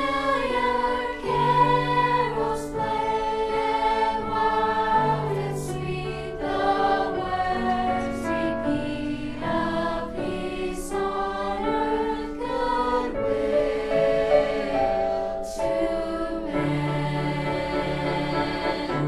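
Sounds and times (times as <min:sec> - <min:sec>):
choir singing in harmony: 0:00.0 - 0:19.0.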